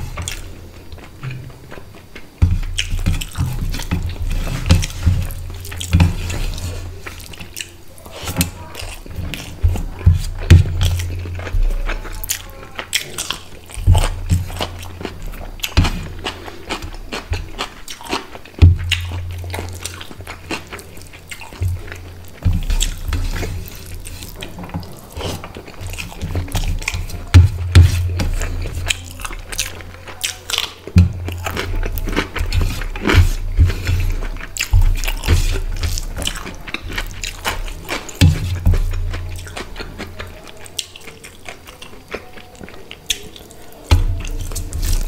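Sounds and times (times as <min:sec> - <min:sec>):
mouth chewing food wetly: 0:00.0 - 0:45.0
rice squishing between teeth: 0:00.0 - 0:45.0.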